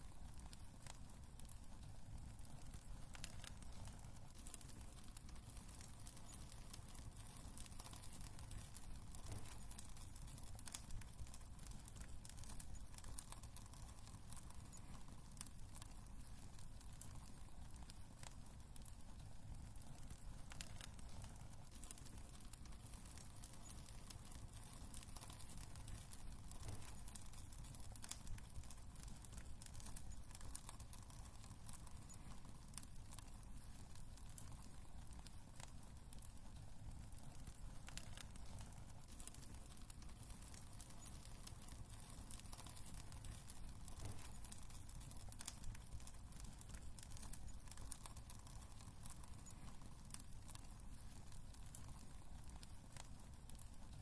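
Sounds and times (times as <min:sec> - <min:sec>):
wood fire crackling and snapping: 0:00.0 - 0:54.0.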